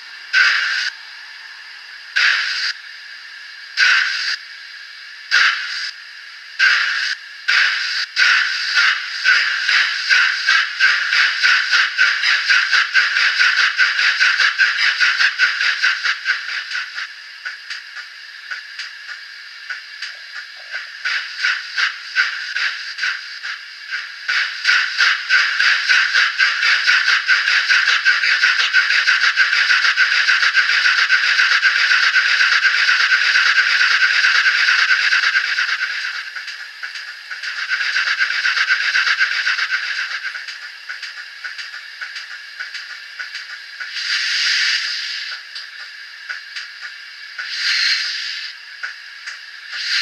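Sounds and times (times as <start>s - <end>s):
model steam locomotive exhaust beats: 0.0s - 50.0s
steam hiss: 0.0s - 50.0s.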